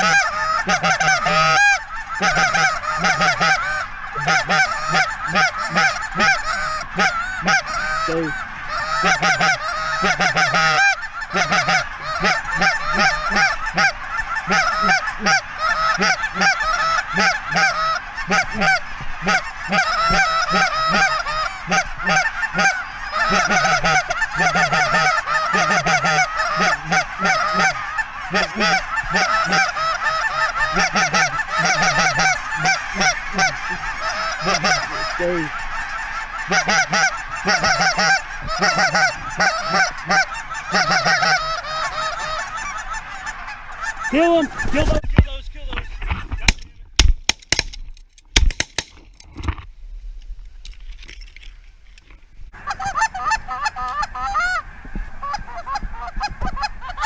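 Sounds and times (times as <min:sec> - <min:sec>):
geese honking and clucking: 0:00.0 - 0:45.0, 0:52.6 - 0:57.0.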